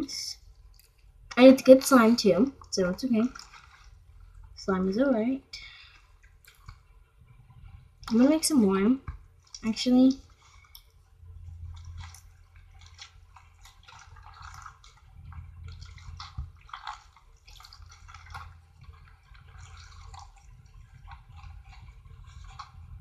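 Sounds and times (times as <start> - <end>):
slime squelching and popping: 0.6 - 4.9, 5.6 - 23.0.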